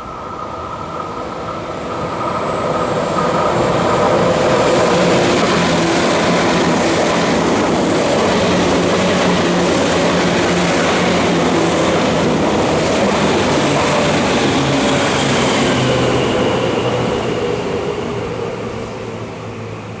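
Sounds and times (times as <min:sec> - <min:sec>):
wheels rumbling on rails: 0:00.2 - 0:20.0.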